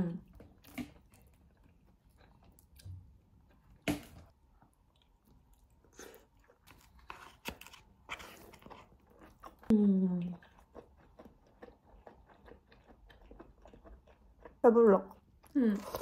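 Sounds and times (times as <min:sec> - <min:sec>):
person chewing: 0:00.2 - 0:16.0.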